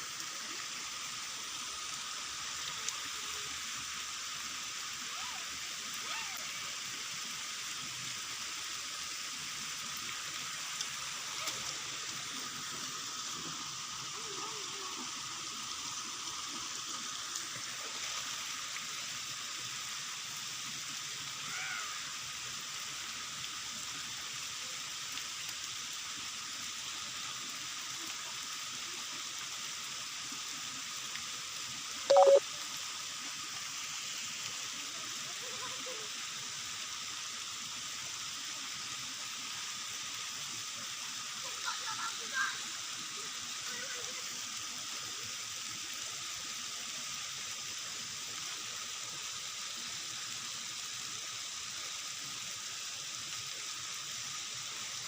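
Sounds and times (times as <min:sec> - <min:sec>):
running water: 0:00.0 - 0:55.0
steady rain: 0:00.0 - 0:55.0.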